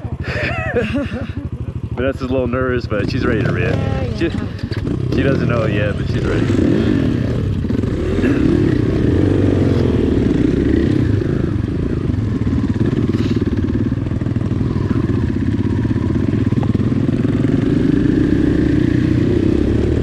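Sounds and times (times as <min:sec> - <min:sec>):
dirt bike engine revving: 0:00.4 - 0:20.0.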